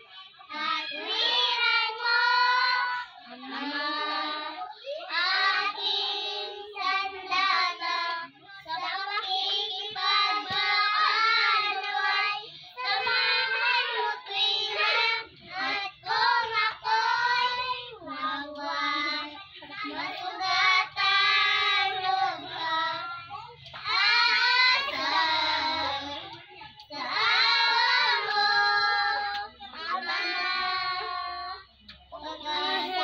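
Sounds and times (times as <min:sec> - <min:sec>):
child singing: 0:00.0 - 0:33.0.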